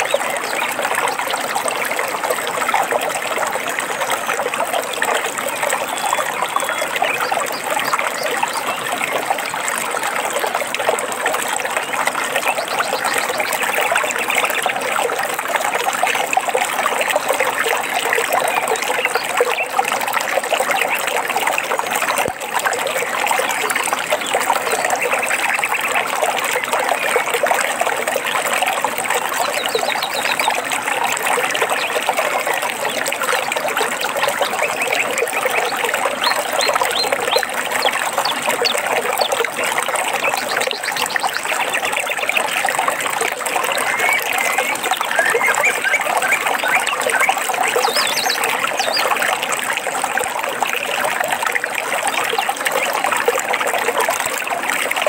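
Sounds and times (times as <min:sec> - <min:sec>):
stream water babbling over stones: 0:00.0 - 0:55.0.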